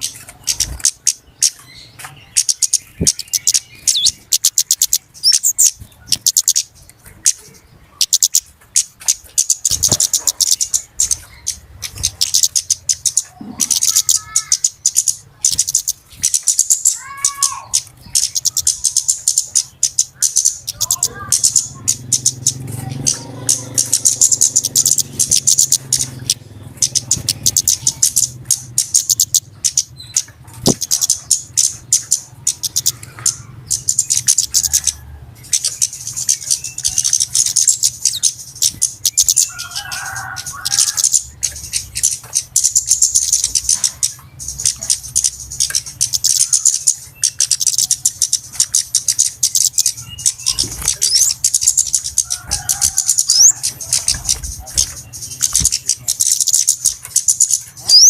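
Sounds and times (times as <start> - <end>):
birds chattering high-pitched chips: 0.0 - 58.0.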